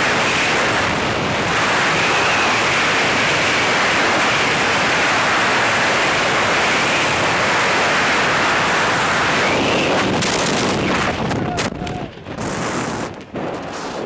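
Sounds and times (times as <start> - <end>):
loud wind noise on microphone: 0.0 - 14.0.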